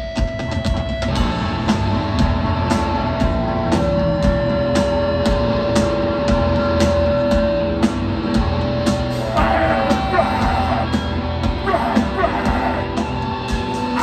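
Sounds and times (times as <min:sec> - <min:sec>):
hardcore punk band playing live: 0:00.0 - 0:14.0.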